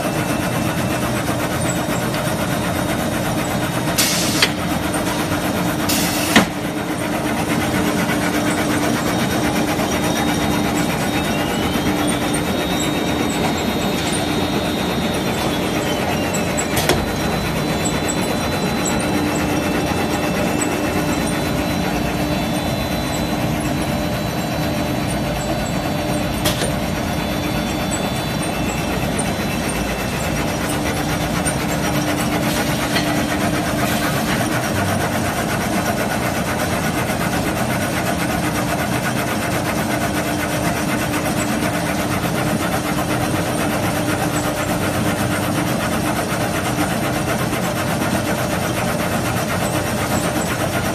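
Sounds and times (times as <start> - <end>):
weaving machine humming: 0.0 - 50.9.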